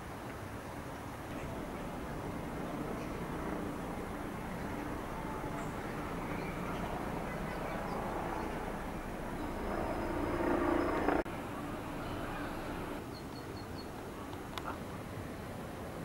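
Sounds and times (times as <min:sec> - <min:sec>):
distant traffic rumble: 0:01.2 - 0:16.0.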